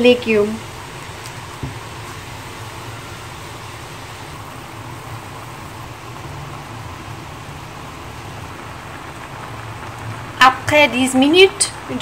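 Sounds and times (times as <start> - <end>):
water boiling and bubbling: 0.0 - 12.0.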